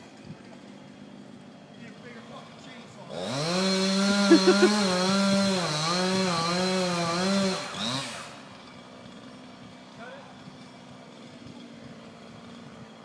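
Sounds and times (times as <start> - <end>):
chainsaw cutting tree: 0.0 - 13.0.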